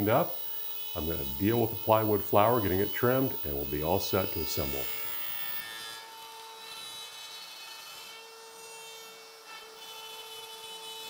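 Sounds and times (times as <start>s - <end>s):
router milling wood whine: 0.0s - 11.0s.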